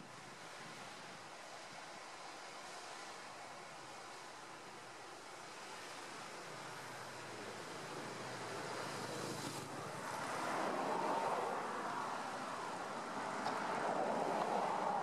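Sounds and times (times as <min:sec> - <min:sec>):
ocean surf waves: 0:00.0 - 0:15.0.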